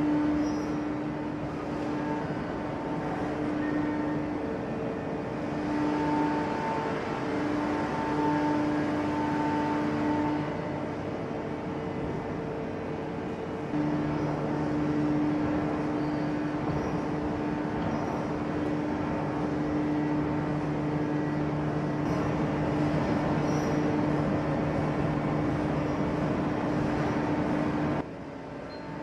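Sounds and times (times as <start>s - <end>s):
hydraulic press humming: 0.0s - 28.0s.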